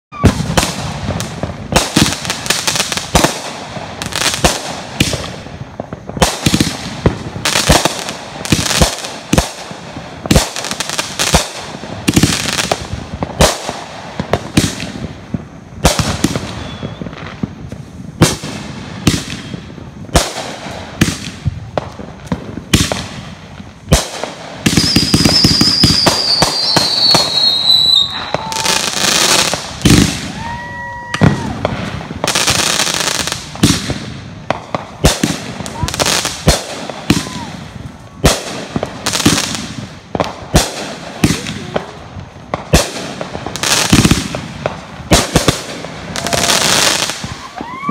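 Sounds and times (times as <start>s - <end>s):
firework crackle: 0.1s - 47.9s
firework shots and bursts: 0.1s - 47.9s.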